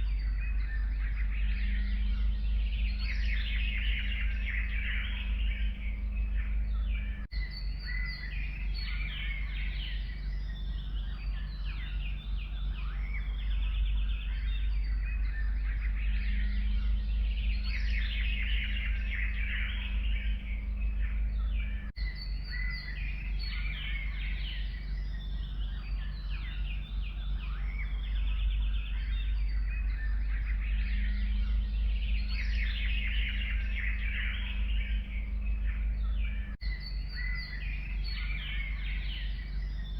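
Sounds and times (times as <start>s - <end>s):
songbirds singing: 0.0s - 39.9s
steady low rumble: 0.0s - 39.9s.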